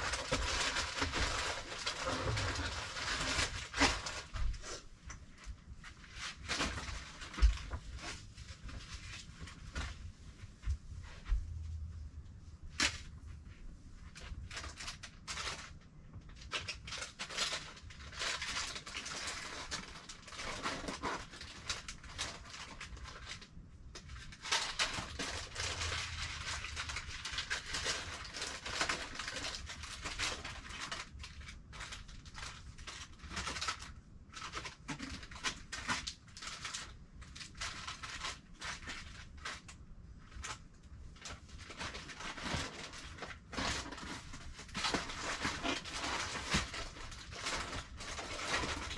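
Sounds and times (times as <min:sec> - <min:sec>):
packaging rustling and crinkling: 0:00.0 - 0:11.9, 0:12.6 - 0:48.9.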